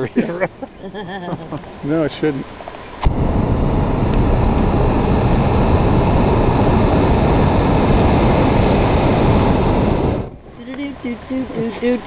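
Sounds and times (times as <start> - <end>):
propane burner blast: 1.8 - 12.0.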